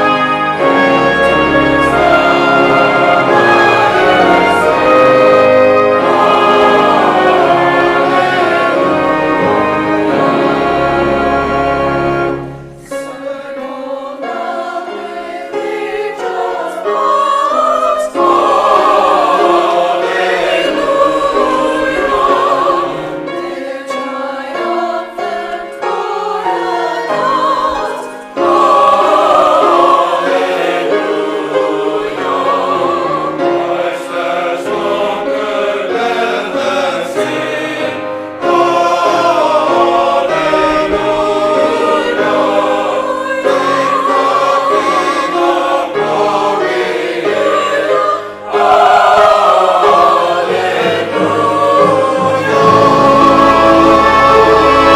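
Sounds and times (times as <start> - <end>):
church choir singing a hymn: 0.0 - 54.9
piano accompaniment: 0.0 - 54.9.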